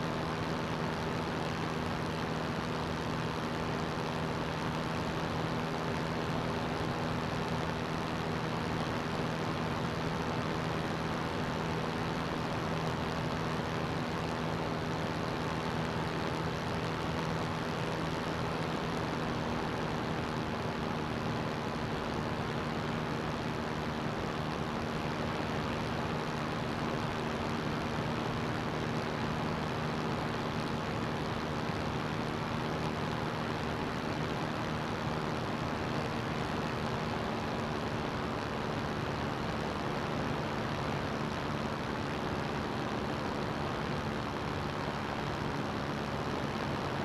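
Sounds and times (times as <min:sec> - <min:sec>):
light aircraft engine and propeller: 0:00.0 - 0:47.0.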